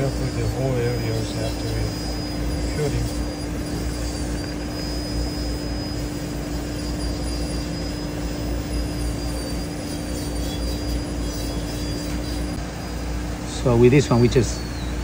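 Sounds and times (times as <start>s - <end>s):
low machine hum: 0.0s - 15.0s
mid-pitched machine tone: 0.0s - 15.0s
thin high whine: 0.0s - 15.0s.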